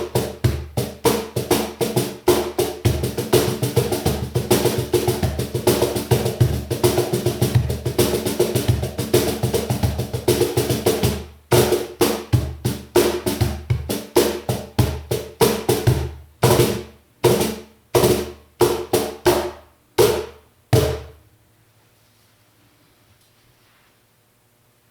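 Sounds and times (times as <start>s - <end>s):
cajon struck by hand: 0.0s - 21.2s.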